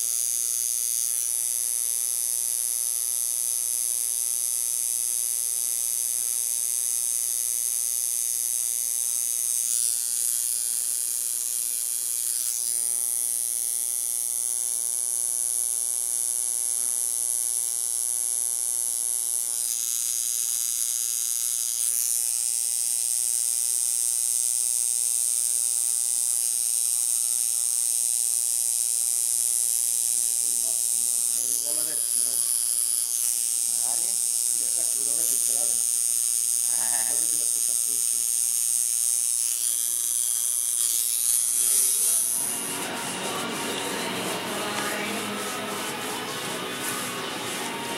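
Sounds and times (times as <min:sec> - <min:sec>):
tattoo machine buzzing: 0:00.0 - 0:47.9.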